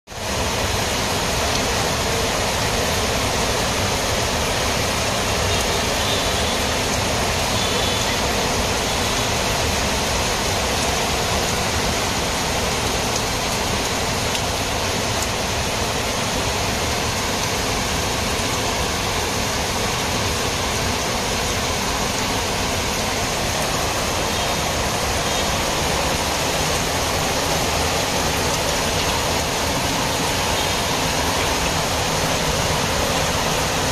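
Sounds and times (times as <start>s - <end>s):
heavy rain hissing: 0.1s - 33.9s
rain on metal roof: 0.1s - 33.9s.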